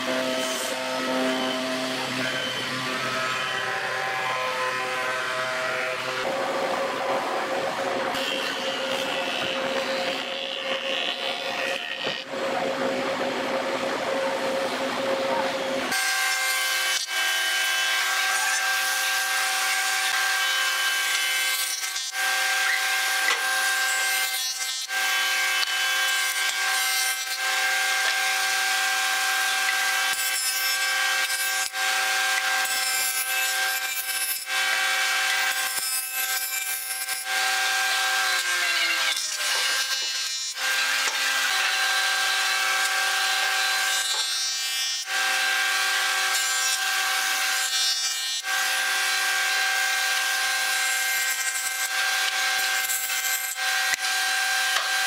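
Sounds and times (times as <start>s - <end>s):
jointer cutterhead whining: 0.0s - 55.0s.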